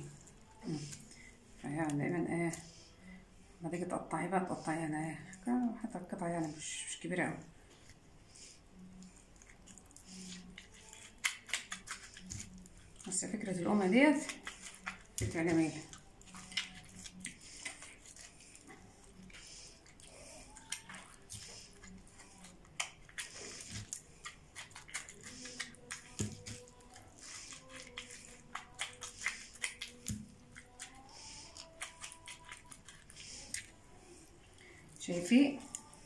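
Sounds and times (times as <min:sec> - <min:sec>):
wet squelching of rice stuffing: 0:00.0 - 0:36.0.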